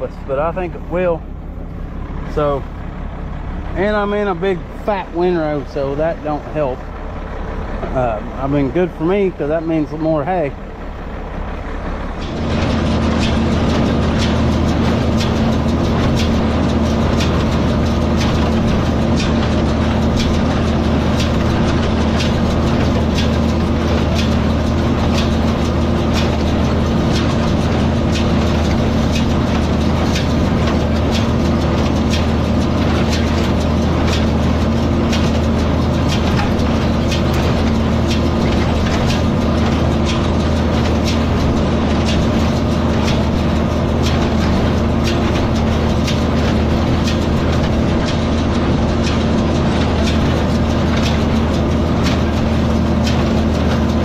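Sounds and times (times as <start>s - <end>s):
hay baler clacking: 0.0s - 54.0s
tractor engine running under load: 0.0s - 54.0s.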